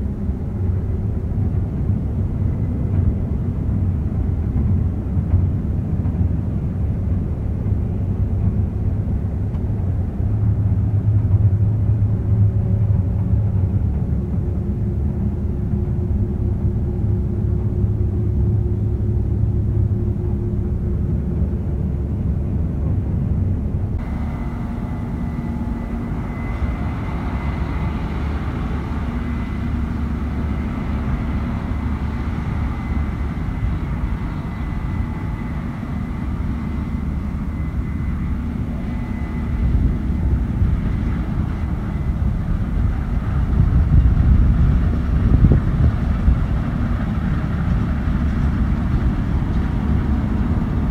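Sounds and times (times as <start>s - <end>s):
combine harvester rumbling: 0.0s - 50.9s
mechanical hum: 0.0s - 50.9s
thin steady whine: 0.0s - 50.9s.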